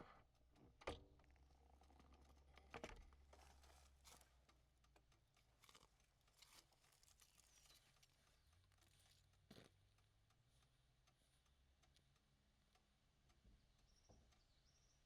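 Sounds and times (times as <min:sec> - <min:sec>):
faint ticks and rustles: 0:00.0 - 0:15.0.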